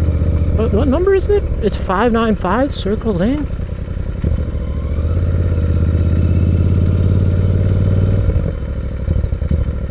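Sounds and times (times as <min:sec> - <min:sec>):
motorcycle engine under throttle: 0:00.0 - 0:09.9.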